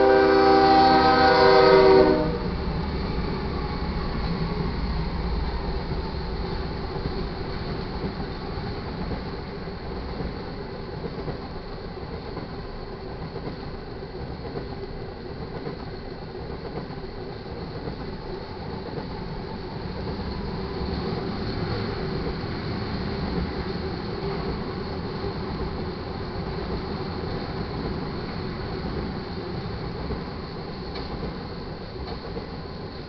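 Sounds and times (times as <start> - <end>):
freight train rolling on rails: 0.0 - 33.0.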